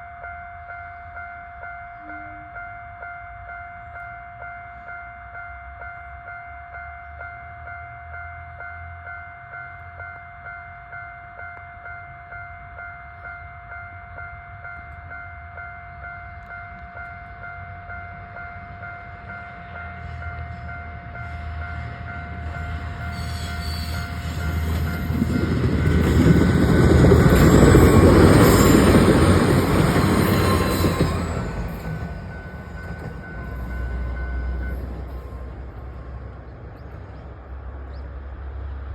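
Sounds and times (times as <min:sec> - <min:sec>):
train passing: 0:00.0 - 0:38.9.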